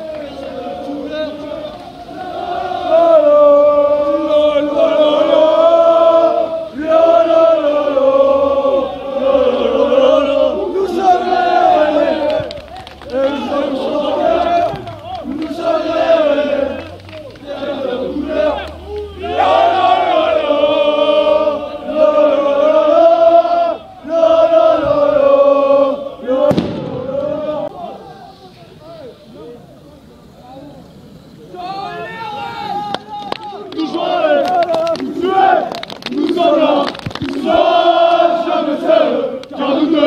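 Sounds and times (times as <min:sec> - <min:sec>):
crowd chanting in unison: 0:00.0 - 0:28.3, 0:32.4 - 0:40.0.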